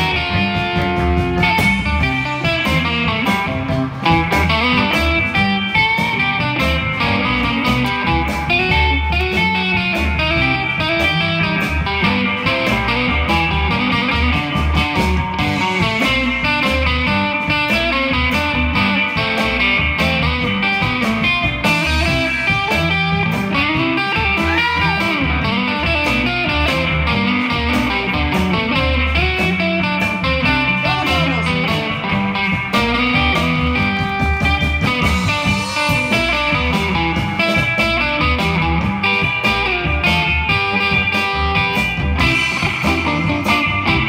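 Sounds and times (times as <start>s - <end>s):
drums: 0.0s - 44.0s
lead electric guitar: 0.0s - 44.0s
upright bass: 0.0s - 44.0s.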